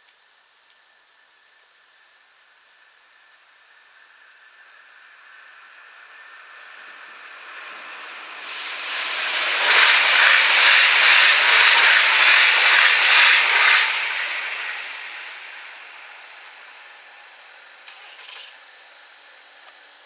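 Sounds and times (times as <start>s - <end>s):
train wheels rushing on rail: 2.6s - 20.0s.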